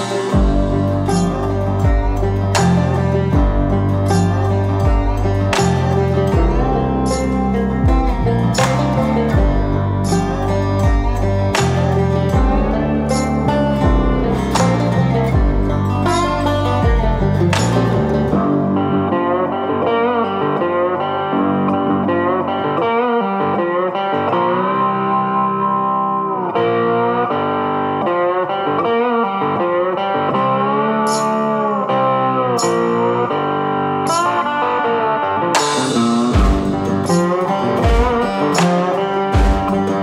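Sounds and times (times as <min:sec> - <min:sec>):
guitar music with bending notes: 0:00.0 - 0:40.0.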